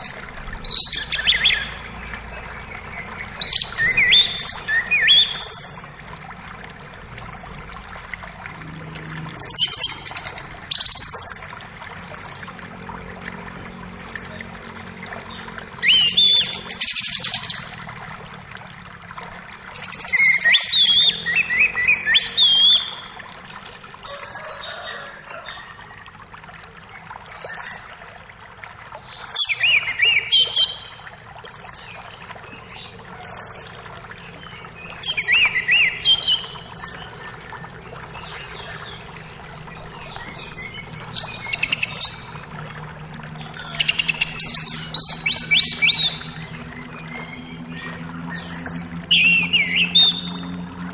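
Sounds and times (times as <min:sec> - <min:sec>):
bird warbling song: 0:00.0 - 0:06.2, 0:07.1 - 0:13.0, 0:13.7 - 0:18.2, 0:19.7 - 0:25.9, 0:28.8 - 0:50.9
faint creek flow: 0:00.0 - 0:50.9.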